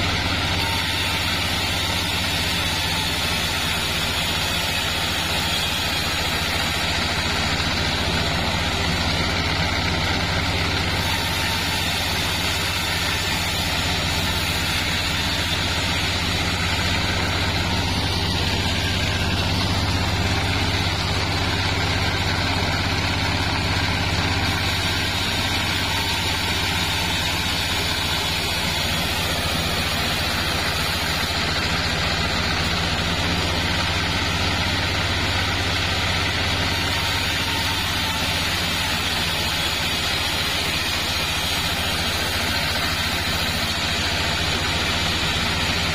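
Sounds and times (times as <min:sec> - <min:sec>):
band saw blade sawing log: 0:00.0 - 0:45.9.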